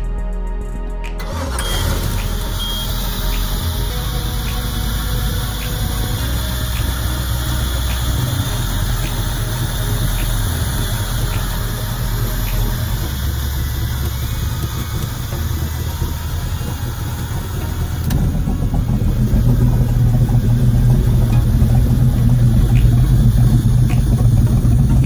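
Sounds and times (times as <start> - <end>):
boat engine idling: 1.2 - 25.0
faint ticking: 1.9 - 25.0.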